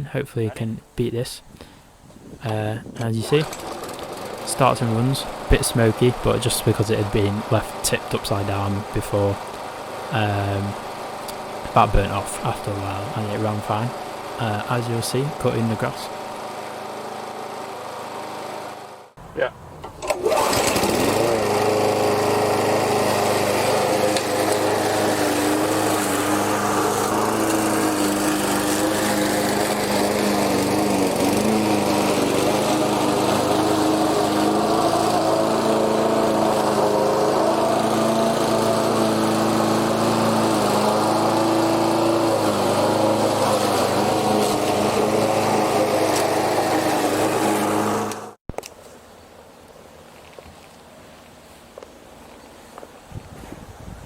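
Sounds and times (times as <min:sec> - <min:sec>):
lawnmower engine cutting grass: 0:01.5 - 0:19.2, 0:19.8 - 0:48.8.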